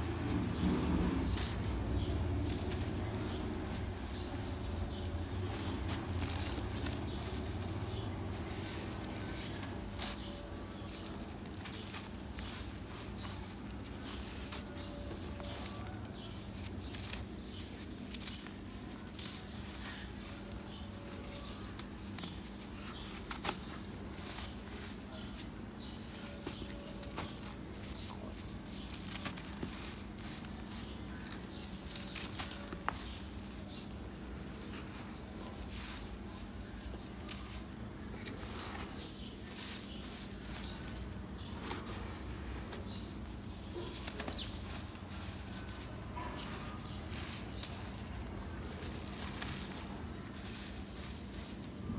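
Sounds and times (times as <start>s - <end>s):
hand crumbling dry dirt: 0.2s - 51.9s.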